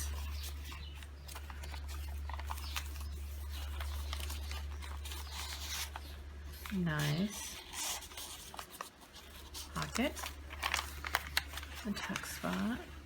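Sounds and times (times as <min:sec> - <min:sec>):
paper rustling: 0:00.0 - 0:13.0
steady low electrical hum: 0:00.0 - 0:13.0.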